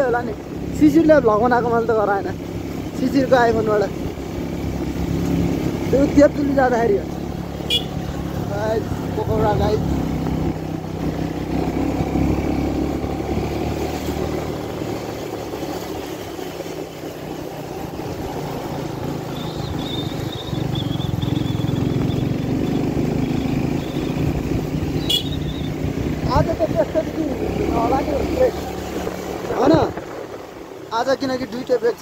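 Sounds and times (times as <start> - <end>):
motorcycle engine running: 0.0 - 31.8.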